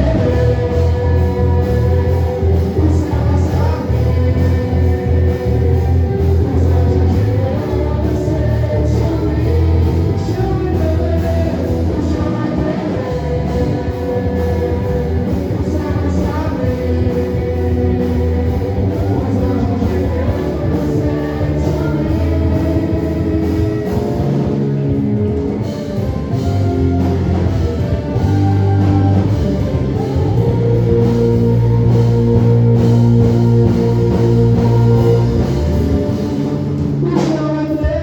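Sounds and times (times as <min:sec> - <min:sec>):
heavy bass: 0:00.0 - 0:38.0
person singing: 0:00.0 - 0:38.0
steady drum beat: 0:00.0 - 0:38.0
worship band music: 0:00.0 - 0:38.0.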